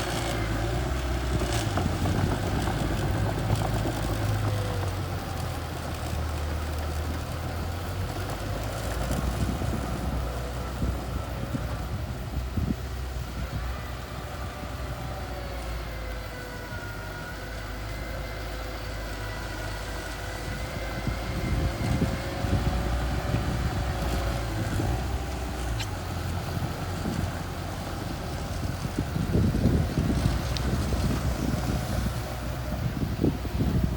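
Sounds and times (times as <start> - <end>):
bulldozer engine rumbling: 0.0 - 33.9.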